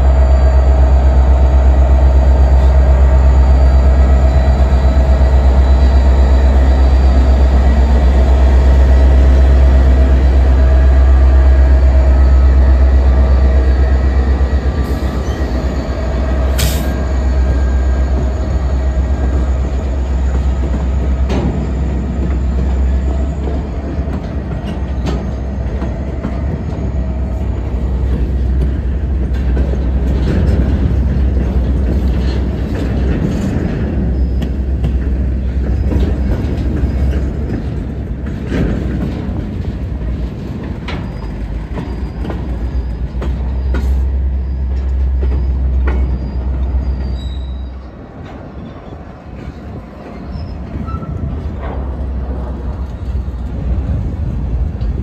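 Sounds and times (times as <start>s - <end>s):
diesel locomotive engine rumble: 0.0s - 55.0s
freight cars clanking: 2.4s - 55.0s.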